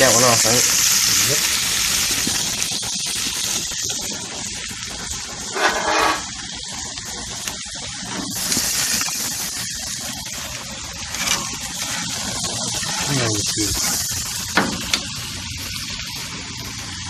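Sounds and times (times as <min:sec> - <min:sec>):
meat and vegetables sizzling on grill: 0:00.0 - 0:17.0.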